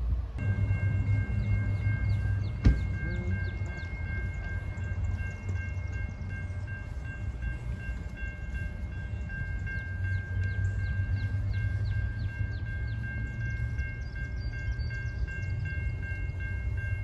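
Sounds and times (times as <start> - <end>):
distant train rumble: 0.0 - 17.0
steady high-pitched tone: 0.4 - 17.0.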